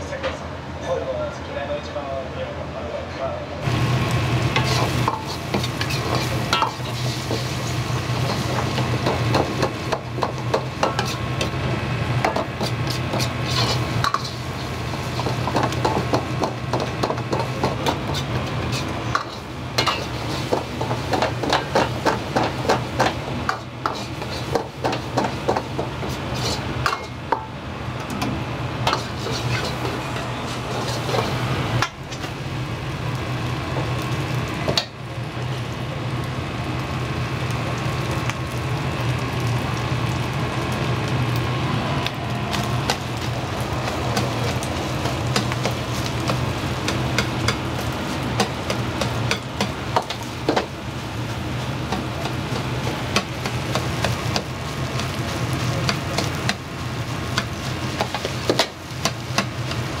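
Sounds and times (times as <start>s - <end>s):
food sizzling in a wok: 3.6s - 60.0s.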